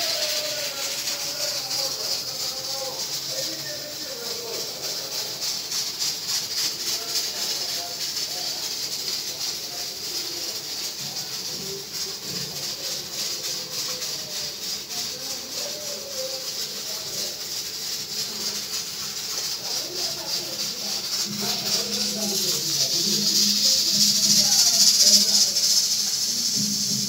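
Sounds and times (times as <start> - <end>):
shaker-like hiss: 0.0 - 27.0.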